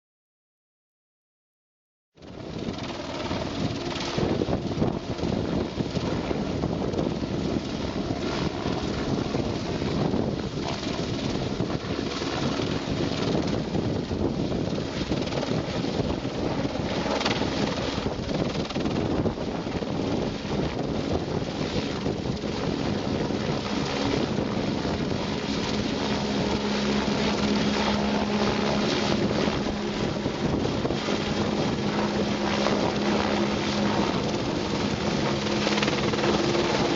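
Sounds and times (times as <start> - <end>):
helicopter rotor and engine: 2.2 - 36.9.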